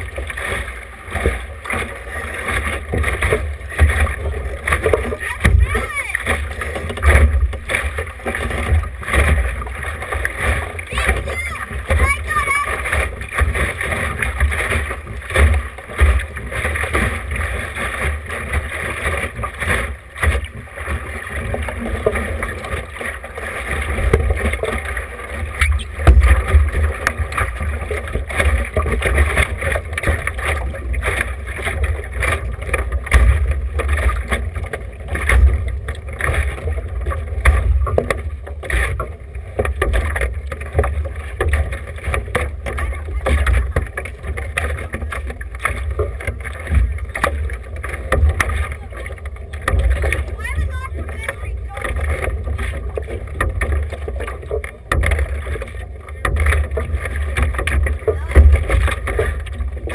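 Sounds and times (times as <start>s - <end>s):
water slapping boat hull: 0.0s - 59.9s.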